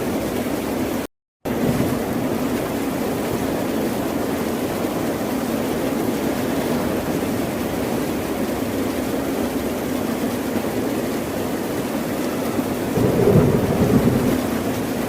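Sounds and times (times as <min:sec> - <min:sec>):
continuous rush of water: 0:00.0 - 0:15.0.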